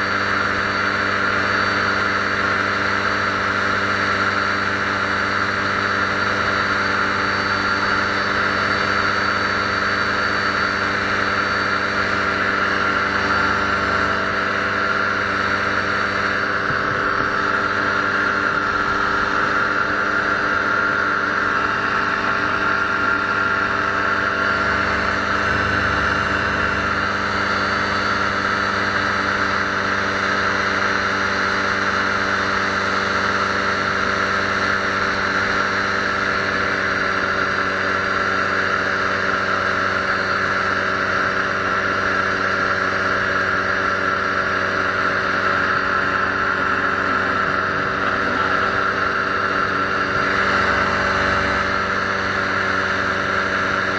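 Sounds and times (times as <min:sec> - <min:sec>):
paramotor engine droning: 0:00.0 - 0:53.9.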